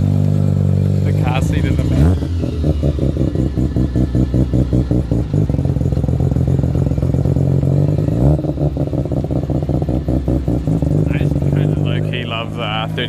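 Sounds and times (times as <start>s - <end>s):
rotary engine pulling away: 0.0s - 13.0s.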